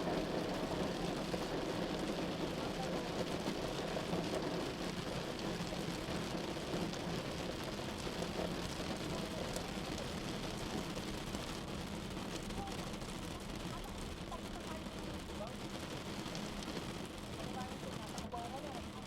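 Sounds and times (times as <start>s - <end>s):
rain on a car windshield: 0.0s - 19.0s.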